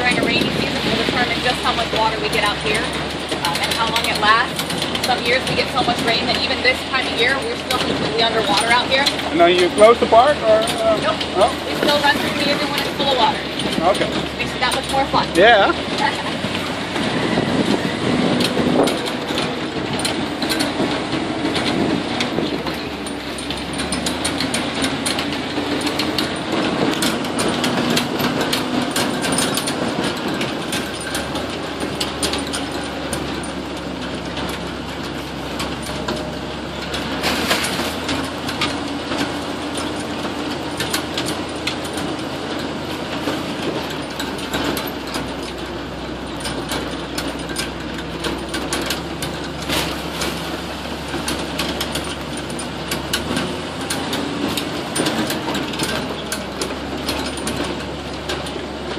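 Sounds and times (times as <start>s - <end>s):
buggy engine running: 0.0s - 58.9s
rattles and knocks of bouncing vehicle: 0.0s - 58.9s.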